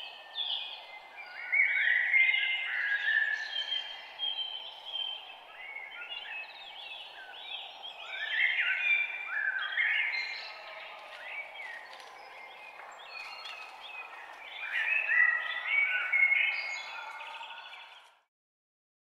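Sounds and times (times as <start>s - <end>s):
songbirds singing: 0.0s - 18.3s.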